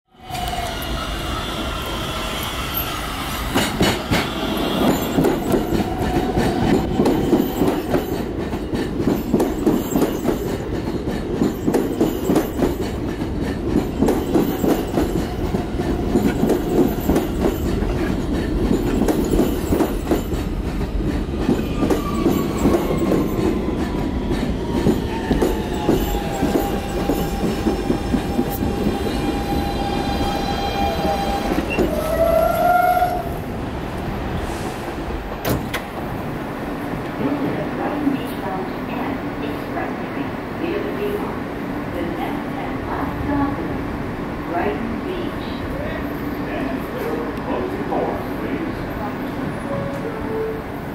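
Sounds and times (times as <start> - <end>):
subway train wheels clacking: 0.2 - 50.9.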